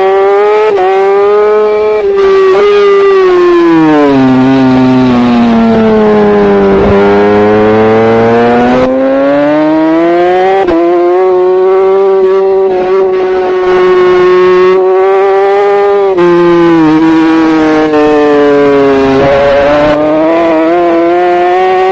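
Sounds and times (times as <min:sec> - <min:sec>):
racing motorcycle engine revving: 0:00.0 - 0:21.9.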